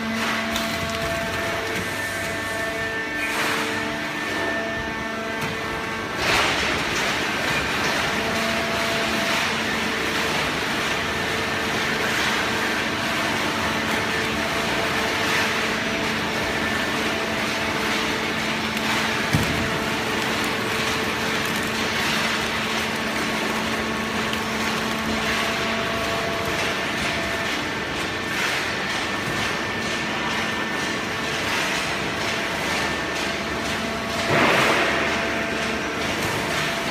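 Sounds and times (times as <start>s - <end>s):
baling press hum and whine: 0.0s - 36.9s.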